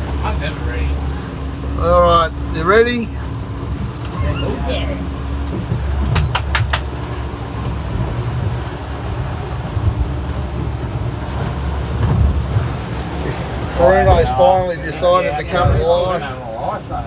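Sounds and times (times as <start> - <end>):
boat engine droning: 0.0 - 17.0
water noise: 0.0 - 17.0
wind: 0.0 - 17.0.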